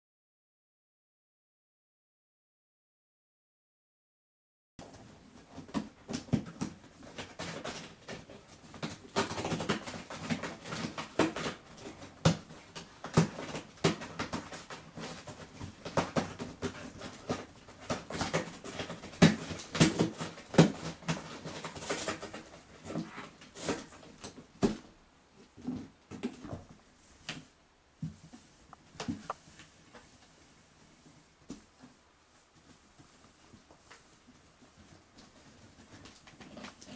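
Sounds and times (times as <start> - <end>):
cats scratching on cardboard: 4.9 - 24.6, 25.6 - 36.9.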